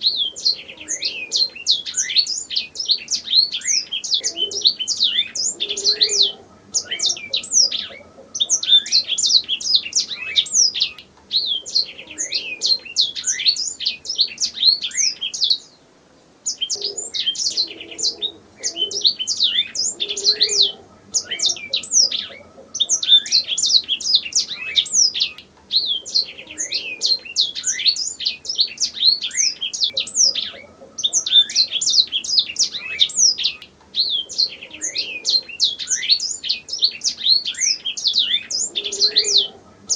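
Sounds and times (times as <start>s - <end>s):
canary singing trills and chirps: 0.0s - 15.8s, 16.4s - 39.9s.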